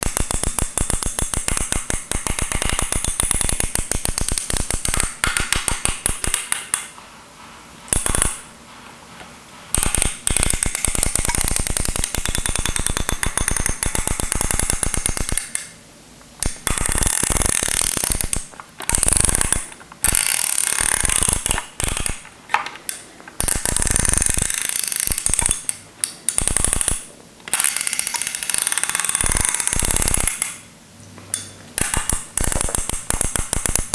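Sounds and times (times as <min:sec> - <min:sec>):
iron control dial clicking: 0:00.0 - 0:06.9, 0:07.9 - 0:08.4, 0:09.7 - 0:15.7, 0:16.4 - 0:22.3, 0:22.9 - 0:30.6, 0:31.3 - 0:33.9.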